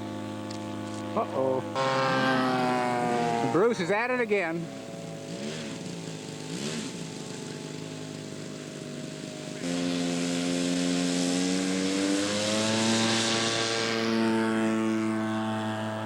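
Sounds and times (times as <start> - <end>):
model airplane engine running: 0.0 - 16.0.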